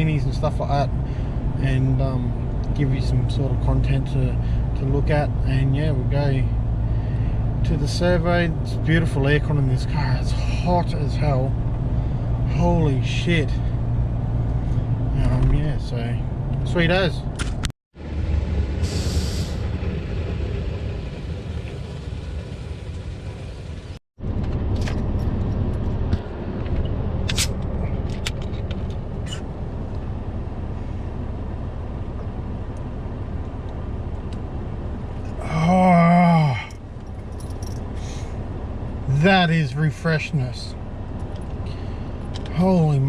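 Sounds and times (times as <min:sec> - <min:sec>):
road and engine rumble: 0:00.0 - 0:43.0.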